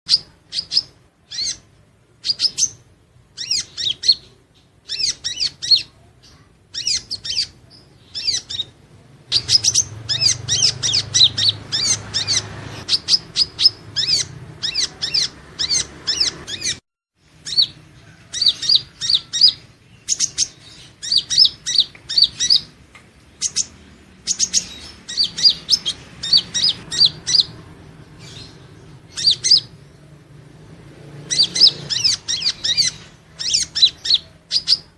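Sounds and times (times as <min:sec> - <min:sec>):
bird high thin chirps: 0:00.1 - 0:02.8, 0:03.4 - 0:27.6, 0:28.2 - 0:29.8, 0:31.3 - 0:34.9.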